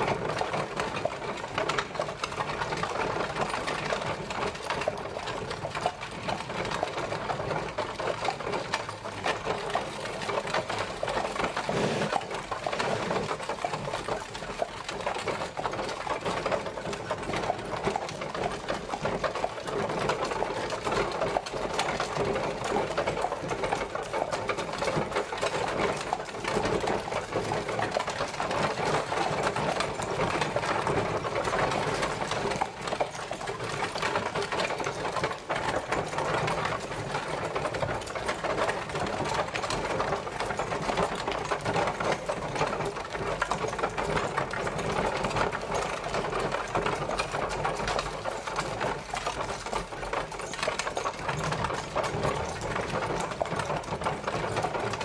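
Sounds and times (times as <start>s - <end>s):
carriage wheels rattling: 0.0s - 55.0s.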